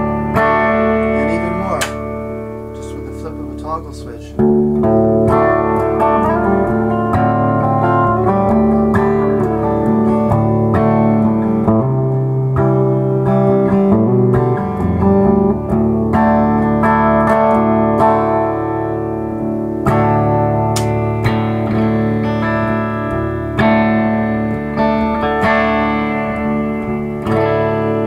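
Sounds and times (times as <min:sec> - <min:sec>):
clean electric guitar chords: 0:00.0 - 0:28.0.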